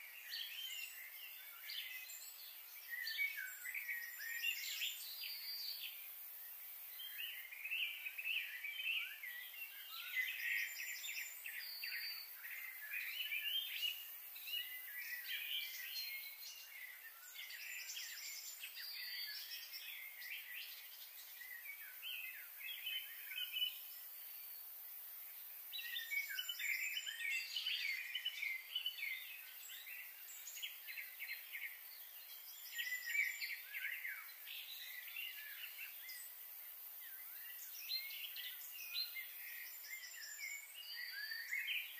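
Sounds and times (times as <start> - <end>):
birds chirping and singing: 0.1 - 6.1, 7.0 - 24.7, 25.4 - 36.4, 37.0 - 41.9.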